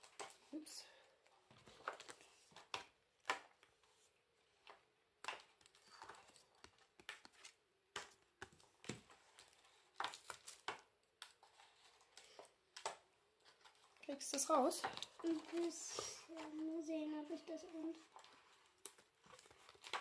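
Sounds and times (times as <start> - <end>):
paper and card rustling: 0.0 - 20.0.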